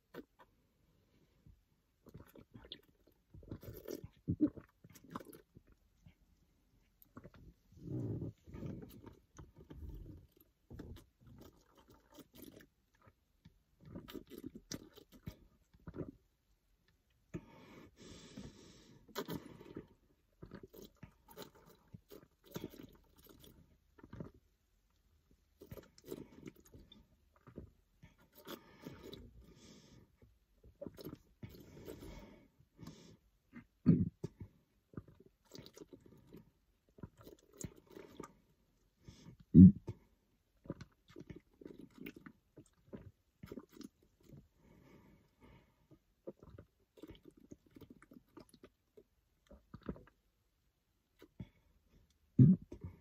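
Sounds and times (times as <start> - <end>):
person gulping soda: 0.0 - 0.6, 1.5 - 50.4, 51.0 - 53.0.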